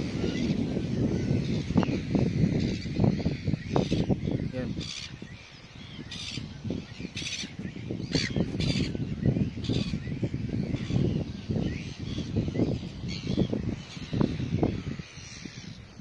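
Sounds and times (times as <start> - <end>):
gulls squawking: 0.0 - 16.0.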